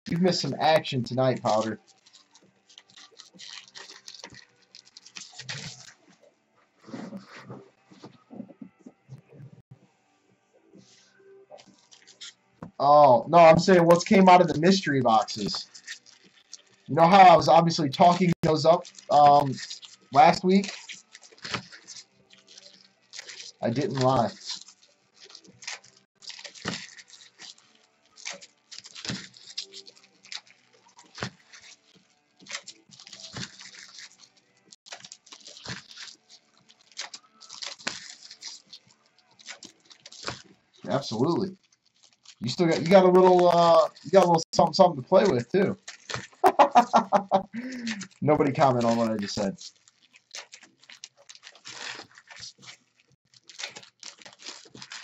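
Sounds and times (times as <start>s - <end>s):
card wrappers crinkling: 0.1s - 6.2s, 11.6s - 55.0s
wrapper tearing: 0.1s - 6.2s, 11.6s - 55.0s.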